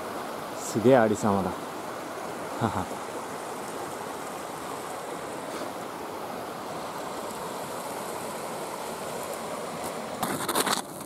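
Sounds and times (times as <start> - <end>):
mountain stream flowing: 0.0 - 11.0.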